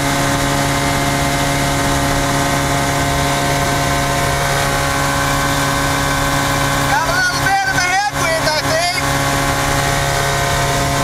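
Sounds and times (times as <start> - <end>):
airflow noise: 0.0 - 11.0
light aircraft engine drone: 0.0 - 11.0.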